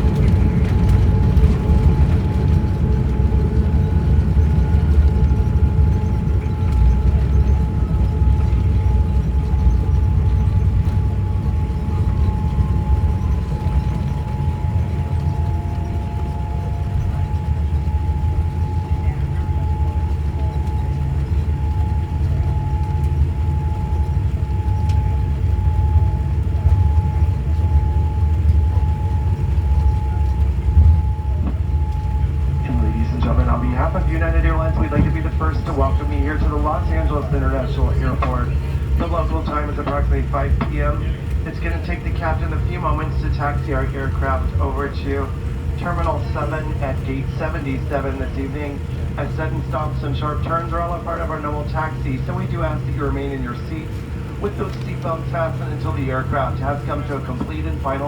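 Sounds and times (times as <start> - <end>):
airliner cabin rumble: 0.0 - 58.0
constant humming tone: 0.0 - 58.0
thin steady whine: 0.0 - 58.0.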